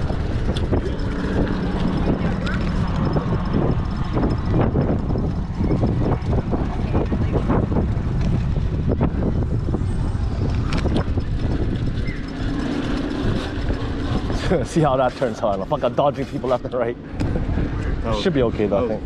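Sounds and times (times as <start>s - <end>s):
electric bike riding rumble: 0.0s - 19.0s
wind buffeting microphone: 0.0s - 19.0s.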